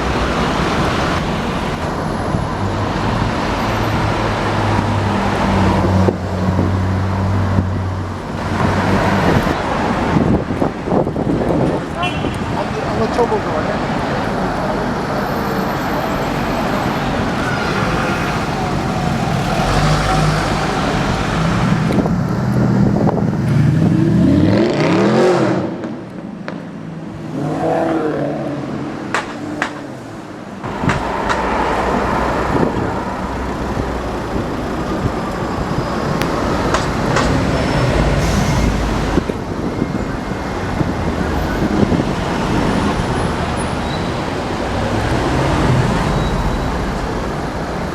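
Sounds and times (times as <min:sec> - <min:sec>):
street traffic with passing cars: 0:00.0 - 0:47.9.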